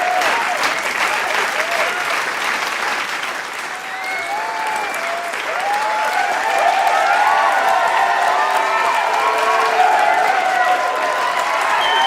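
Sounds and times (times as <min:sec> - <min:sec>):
crowd cheering and whooping: 0:00.0 - 0:02.2, 0:03.6 - 0:12.0
crowd clapping: 0:00.0 - 0:12.0.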